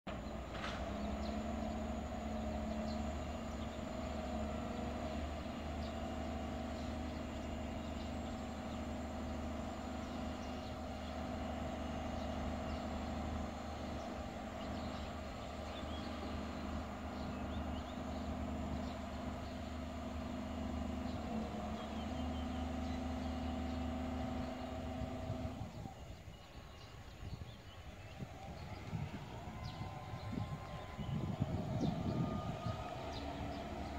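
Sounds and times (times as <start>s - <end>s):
large diesel engine droning: 0.1s - 33.9s.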